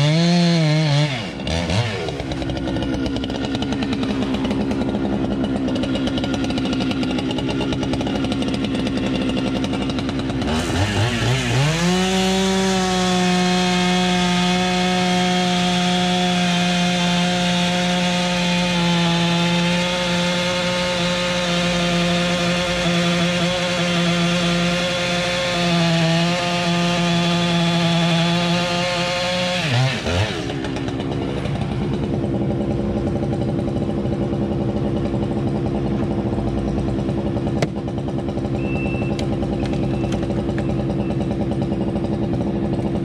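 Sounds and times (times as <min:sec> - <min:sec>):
chainsaw running and revving: 0:00.0 - 0:43.0.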